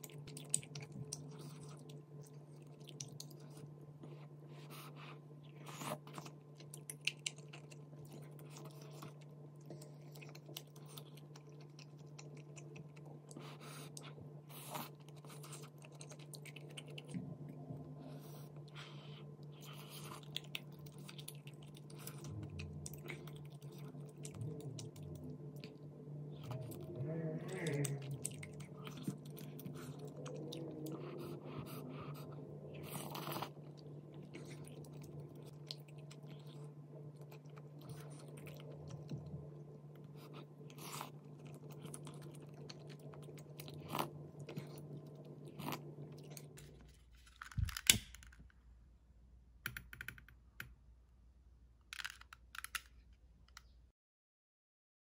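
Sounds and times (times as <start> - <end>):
person chewing: 0.0 - 17.3, 18.0 - 48.0
steady low hum: 0.0 - 53.9.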